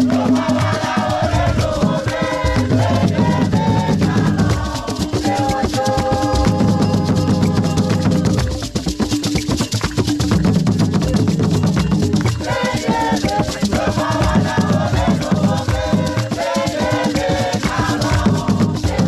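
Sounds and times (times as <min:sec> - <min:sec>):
group of voices singing: 0:00.0 - 0:08.9, 0:12.2 - 0:19.0
hand clapping: 0:00.0 - 0:19.0
hand drums playing: 0:00.0 - 0:19.0.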